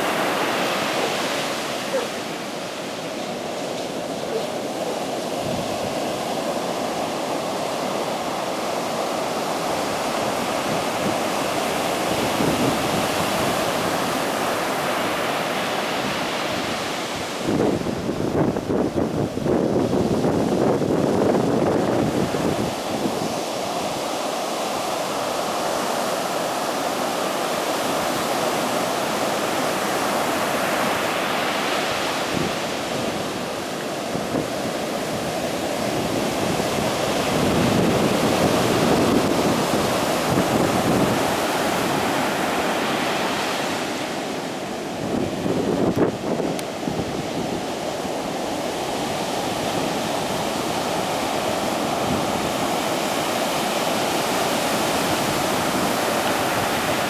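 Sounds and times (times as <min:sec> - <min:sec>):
wind on microphone: 0:00.0 - 0:24.2, 0:27.8 - 0:57.0
ocean surf breaking: 0:00.0 - 0:57.0.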